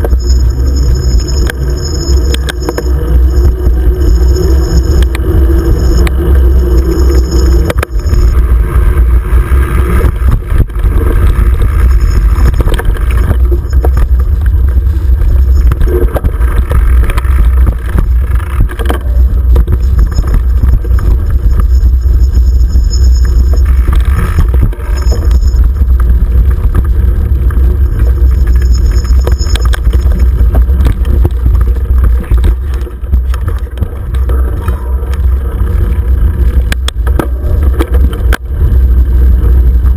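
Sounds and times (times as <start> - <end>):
camera rattling: 0.0 - 39.9
wind rumble: 0.0 - 39.9.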